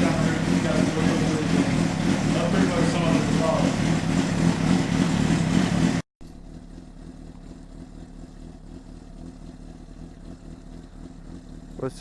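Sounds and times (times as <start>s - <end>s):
motorcycle engine running: 0.0s - 12.0s
quiet engine hum: 0.0s - 12.0s.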